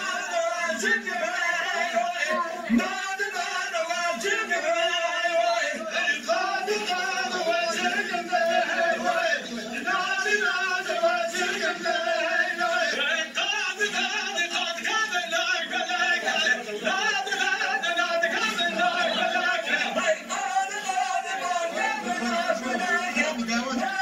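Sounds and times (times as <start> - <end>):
men singing dance song: 0.0 - 24.0.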